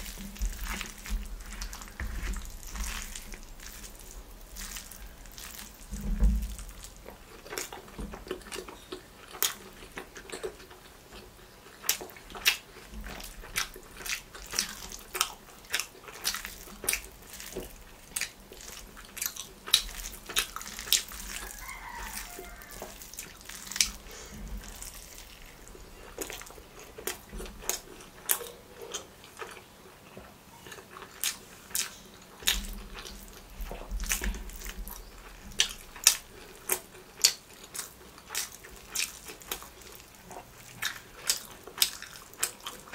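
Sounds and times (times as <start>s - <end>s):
mouth smacks and chewing: 0.0s - 42.9s.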